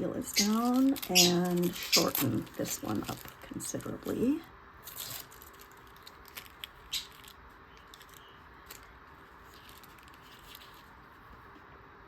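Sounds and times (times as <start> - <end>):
paper rustling and crinkling: 0.0 - 4.2, 4.8 - 11.5
low background hum: 0.0 - 12.0.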